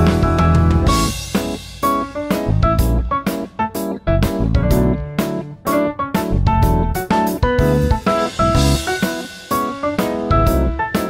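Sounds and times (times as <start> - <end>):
instrumental music with low beat: 0.0 - 11.0.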